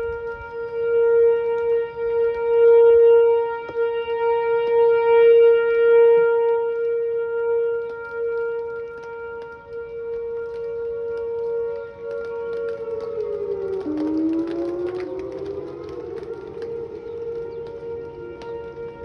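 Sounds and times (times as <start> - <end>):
tornado siren steady tone: 0.0 - 19.0.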